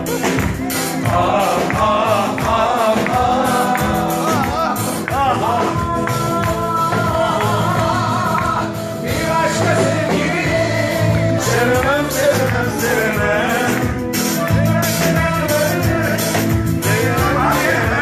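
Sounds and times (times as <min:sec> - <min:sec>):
live band music: 0:00.0 - 0:18.0
percussion beat: 0:00.0 - 0:18.0
person singing: 0:00.0 - 0:18.0.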